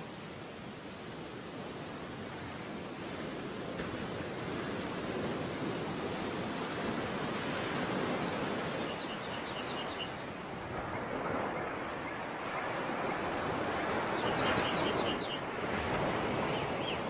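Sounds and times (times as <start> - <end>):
sea waves washing: 1.7 - 17.0.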